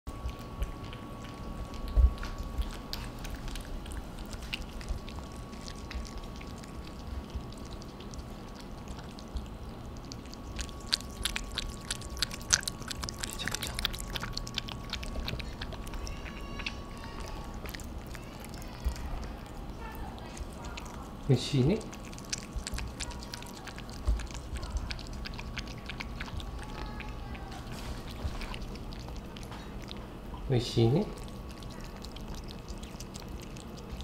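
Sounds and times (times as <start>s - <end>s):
cats eating noisily: 0.1s - 34.0s.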